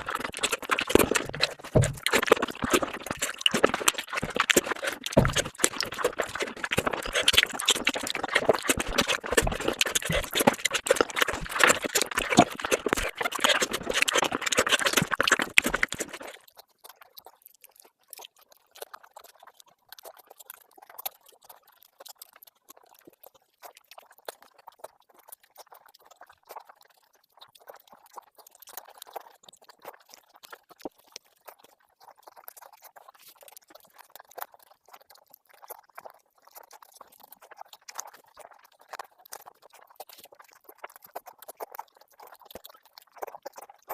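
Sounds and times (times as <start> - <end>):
faint wet clicks: 0.0 - 43.9
wet chewing and smacking: 0.0 - 43.9.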